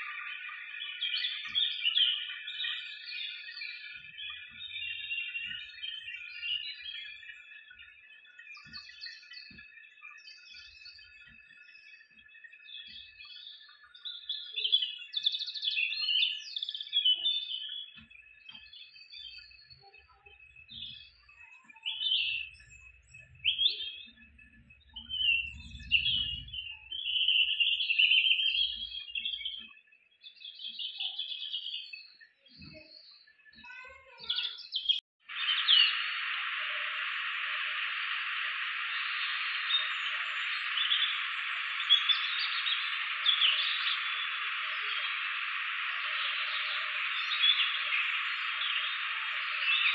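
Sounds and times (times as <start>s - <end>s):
birds chirping and twittering: 0.0s - 49.9s.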